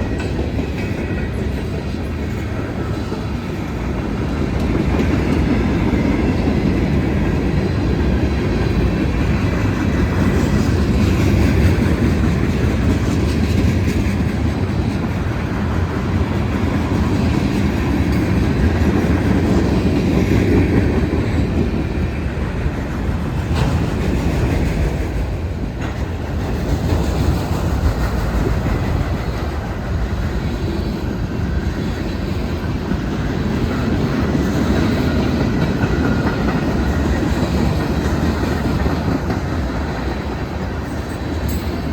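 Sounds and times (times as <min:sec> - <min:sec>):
clickety-clack over rail joints: 0:00.0 - 0:41.9
freight train wheels rumbling on rail: 0:00.0 - 0:41.9.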